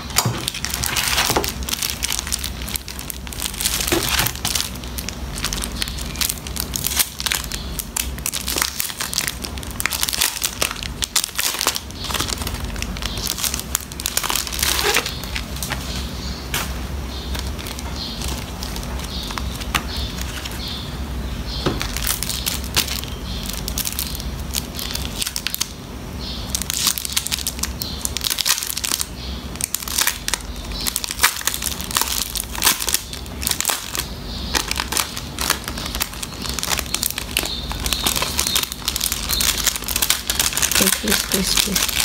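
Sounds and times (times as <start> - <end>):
plastic sleeves crinkling: 0.0 - 20.9, 21.6 - 25.8, 26.4 - 42.0.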